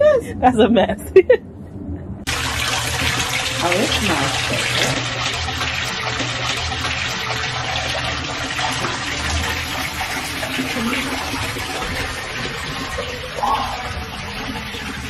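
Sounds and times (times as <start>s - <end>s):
fountain water splashing into basin: 2.3s - 15.0s.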